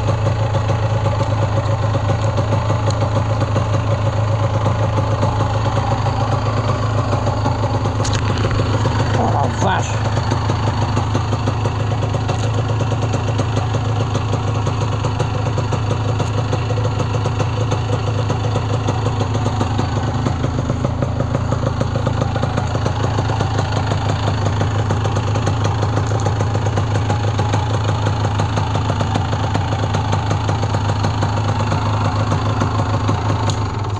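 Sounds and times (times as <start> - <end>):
two-stroke motorcycle engine idling: 0.0 - 33.9.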